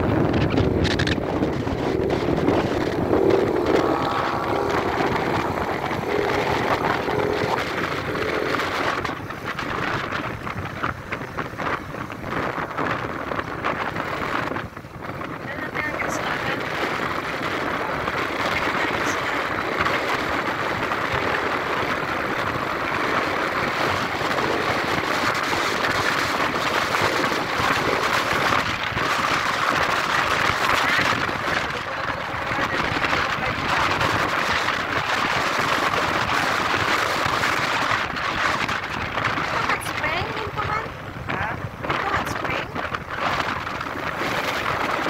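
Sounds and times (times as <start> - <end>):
vehicle road noise: 0.0 - 45.0
wind rush: 0.0 - 45.0.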